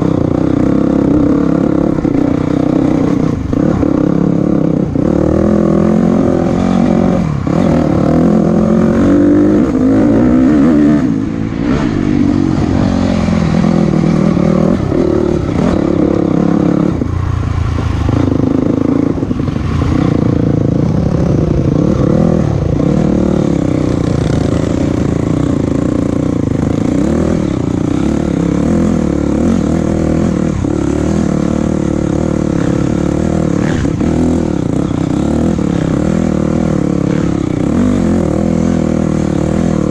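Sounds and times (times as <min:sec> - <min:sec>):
vehicle engine revving while driving: 0:00.0 - 0:39.9.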